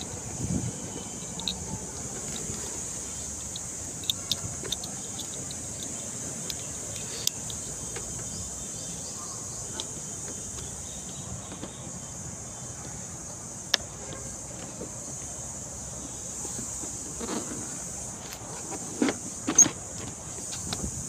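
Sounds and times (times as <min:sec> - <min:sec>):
insects hissing: 0:00.0 - 0:21.0.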